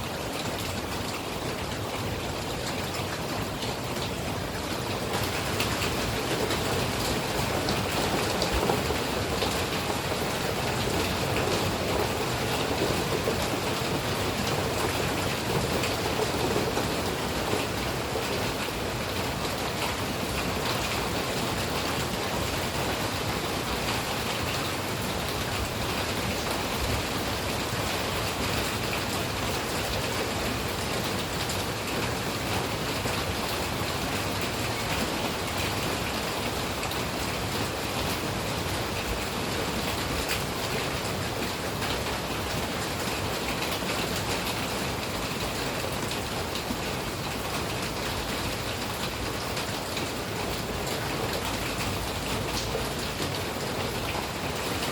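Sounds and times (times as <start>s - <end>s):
rain falling steadily: 0.0s - 54.9s.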